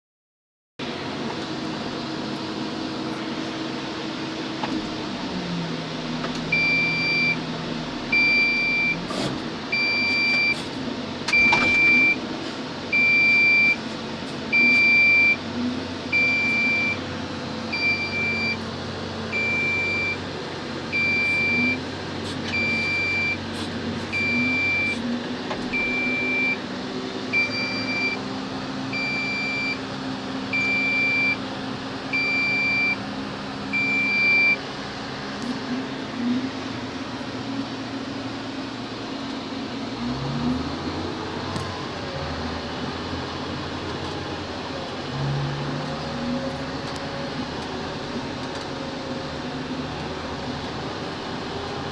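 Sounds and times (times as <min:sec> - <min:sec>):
truck engine drone: 0:00.8 - 0:51.9.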